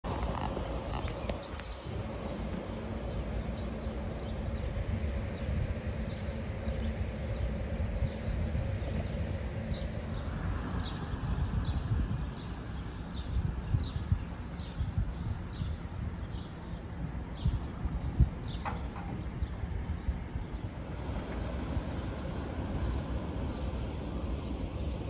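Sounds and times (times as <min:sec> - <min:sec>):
steady low hum: 0:00.0 - 0:25.0
wind rumbling on microphone: 0:00.0 - 0:25.0.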